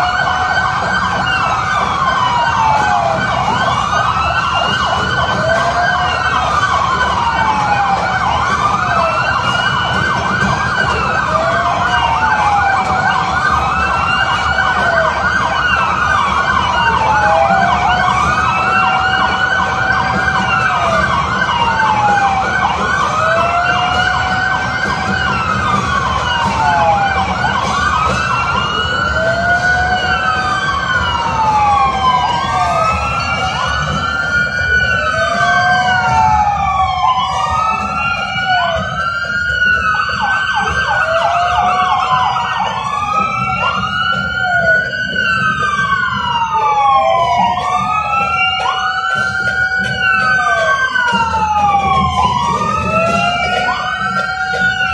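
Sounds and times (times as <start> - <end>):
emergency sirens wailing: 0.0 - 54.9
low street rumble: 0.0 - 54.9.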